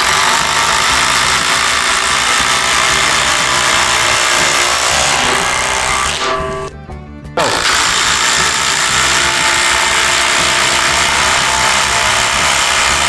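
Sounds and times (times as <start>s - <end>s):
impact driver rattling: 0.0s - 6.3s, 7.4s - 13.0s.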